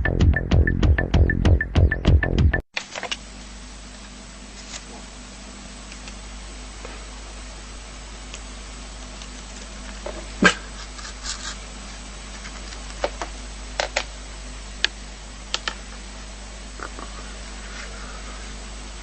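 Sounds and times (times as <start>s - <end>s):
steady background hiss: 2.8s - 19.0s.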